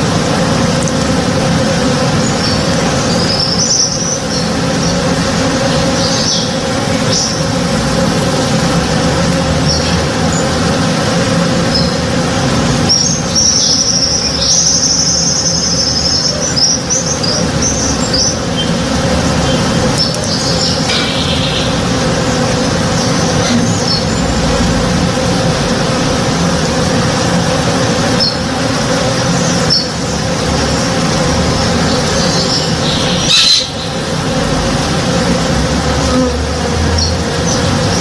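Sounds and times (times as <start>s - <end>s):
birds chirping: 0.0s - 38.0s
honey bees buzzing: 0.0s - 38.0s.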